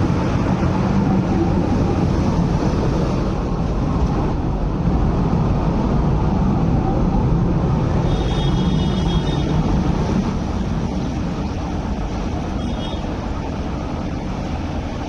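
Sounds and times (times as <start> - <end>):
tram rumbling along track: 0.0 - 15.0.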